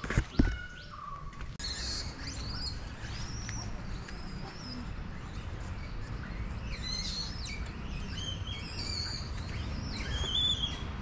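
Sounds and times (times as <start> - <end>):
small birds chirping and whistling: 0.2 - 11.0.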